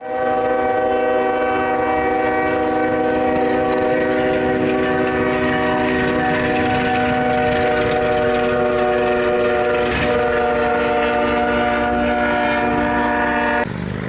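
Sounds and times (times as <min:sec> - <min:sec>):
train horn long blast: 0:00.0 - 0:13.7.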